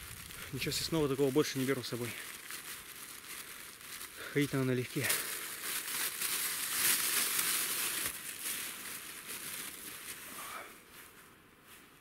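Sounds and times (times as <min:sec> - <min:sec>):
food wrapper crinkling: 0:00.0 - 0:10.7.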